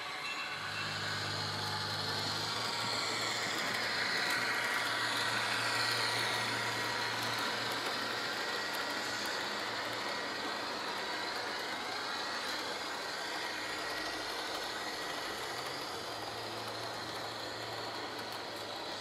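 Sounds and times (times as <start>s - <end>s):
model train diesel engine sound: 0.0s - 19.0s
train rolling on track: 0.0s - 19.0s.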